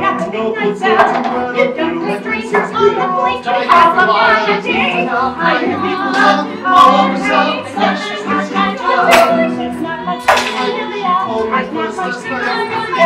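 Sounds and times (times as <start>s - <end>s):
cast singing show tune: 0.0s - 13.0s
musical accompaniment: 0.0s - 13.0s.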